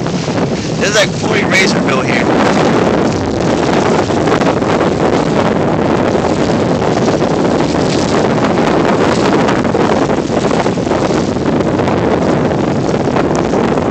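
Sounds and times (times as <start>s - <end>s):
wind on microphone: 0.0s - 13.9s.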